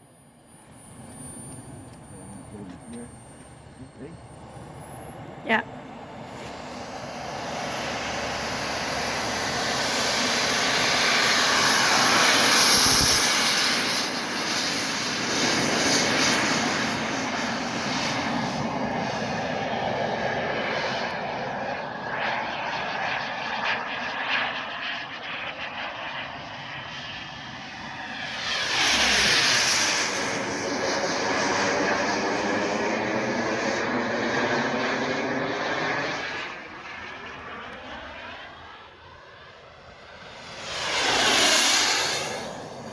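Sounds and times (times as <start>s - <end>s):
model jet turbine roaring: 0.0s - 42.9s.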